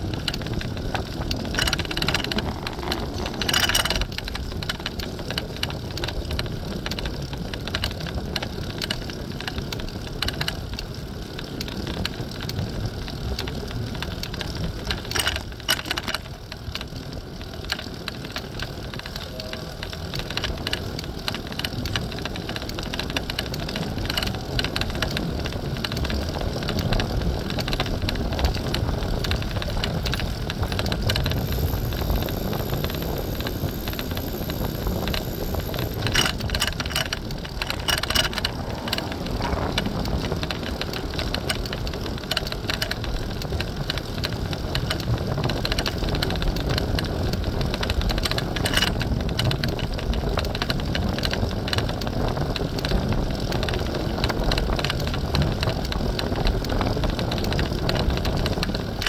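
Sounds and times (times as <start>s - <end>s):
bike rattles and knocks: 0.0s - 59.0s
wind rumble on microphone: 0.0s - 59.0s.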